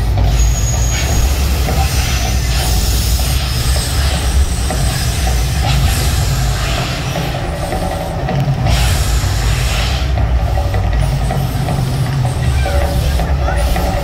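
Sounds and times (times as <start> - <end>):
volcano show rumble with hissing: 0.0 - 14.0.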